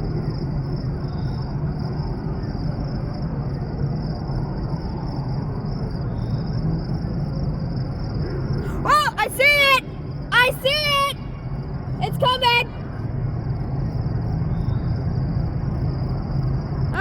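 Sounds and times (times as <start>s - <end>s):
constant low rumble: 0.0s - 17.0s.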